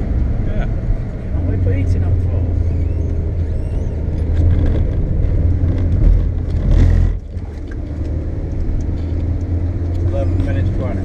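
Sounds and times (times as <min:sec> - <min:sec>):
car engine and tyres drone: 0:00.0 - 0:11.0.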